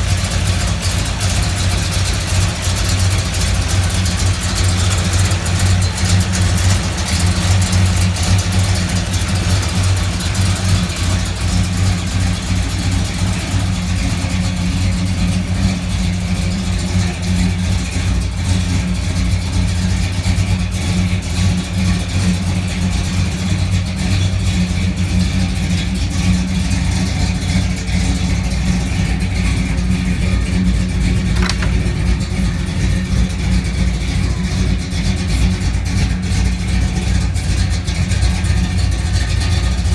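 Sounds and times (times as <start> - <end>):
pickup truck engine running: 0.0 - 39.9.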